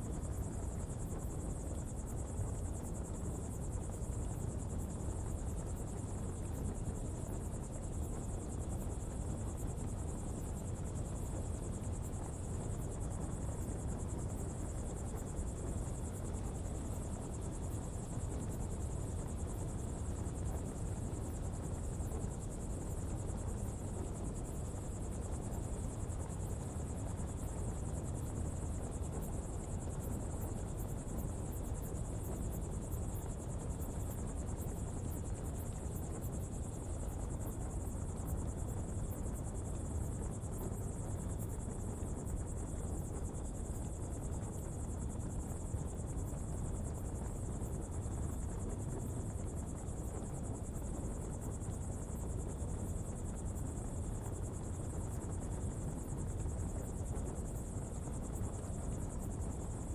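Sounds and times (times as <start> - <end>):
insect chorus: 0.0 - 59.9.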